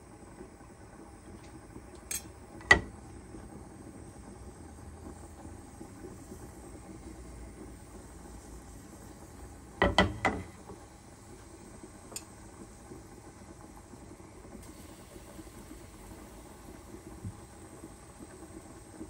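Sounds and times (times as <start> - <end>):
oil sizzling in a frying pan: 0.0 - 19.0.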